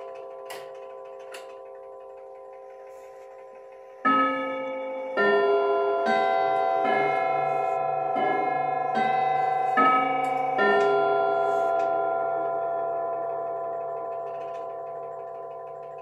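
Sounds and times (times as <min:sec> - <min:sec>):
clock chiming bell-like notes: 0:00.0 - 0:16.0.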